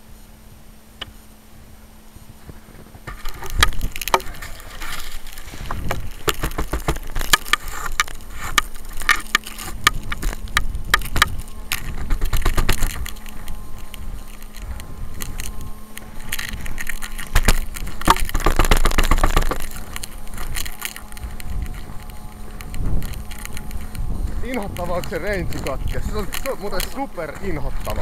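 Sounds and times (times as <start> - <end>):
crunching snow: 0.0 - 28.0
handling knocks and rustling: 2.2 - 28.0.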